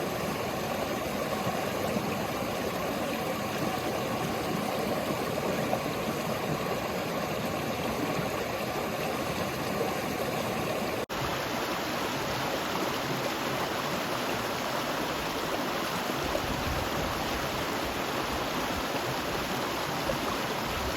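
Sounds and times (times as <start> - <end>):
river water rushing: 0.0 - 20.9.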